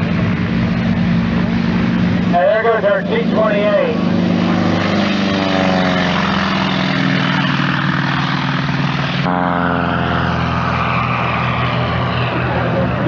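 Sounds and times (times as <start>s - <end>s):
propeller plane flying by: 0.0s - 13.0s.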